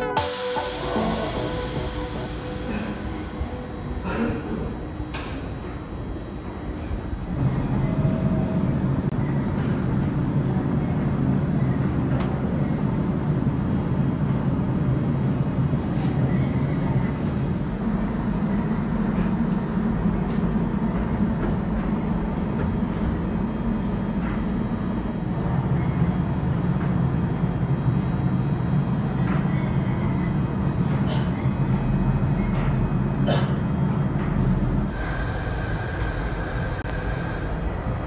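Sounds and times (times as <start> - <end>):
monorail train humming: 0.0 - 38.0.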